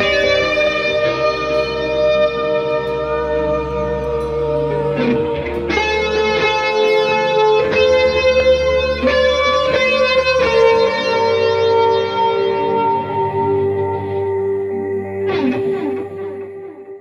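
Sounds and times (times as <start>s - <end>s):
instrumental guitar music: 0.0s - 17.0s
steady low drone: 0.0s - 17.0s.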